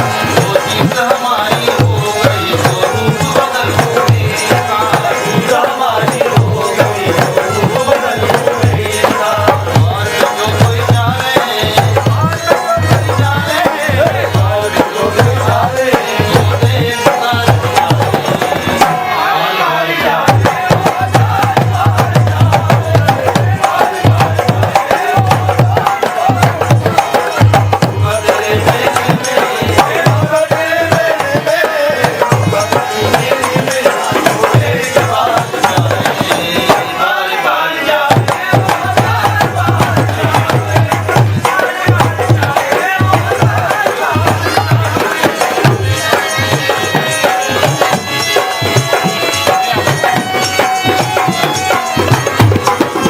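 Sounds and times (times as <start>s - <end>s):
hand drum beat: 0.0s - 19.1s, 20.2s - 37.1s, 38.0s - 53.0s
devotional melody: 0.0s - 53.0s.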